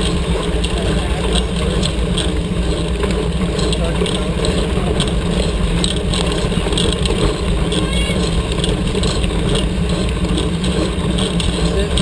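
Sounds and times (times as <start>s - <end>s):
bike rattling clicks: 0.0s - 12.0s
tyres rolling on dirt road: 0.0s - 12.0s
wind rumble: 0.0s - 12.0s.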